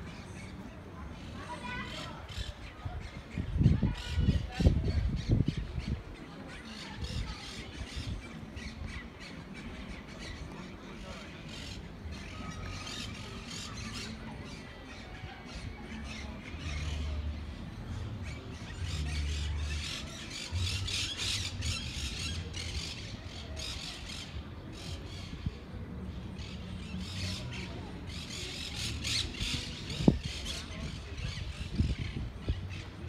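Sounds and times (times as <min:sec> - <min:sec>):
birds squawking and chattering: 0:00.0 - 0:33.0.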